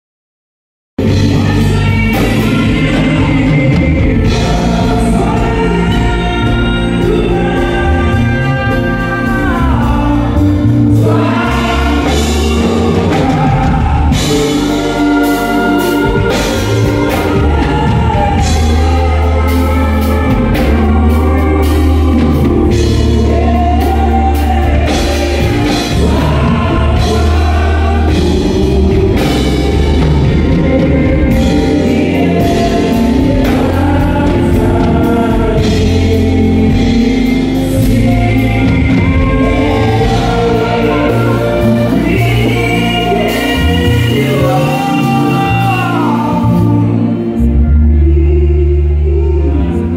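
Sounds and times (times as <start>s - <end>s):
bass guitar: 1.0s - 49.9s
group of voices singing: 1.0s - 49.9s
keyboard: 1.0s - 49.9s.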